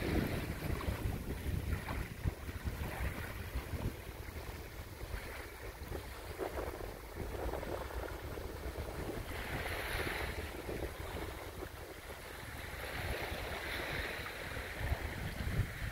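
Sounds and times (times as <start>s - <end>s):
wavelets lapping on sand: 0.0s - 15.9s
wind rumbling on microphone: 0.0s - 15.9s.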